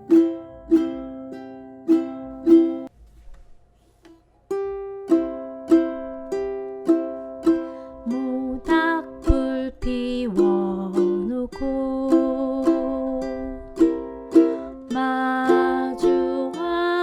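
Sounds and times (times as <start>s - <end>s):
ukulele strumming waltz: 0.0s - 2.9s, 4.5s - 17.0s.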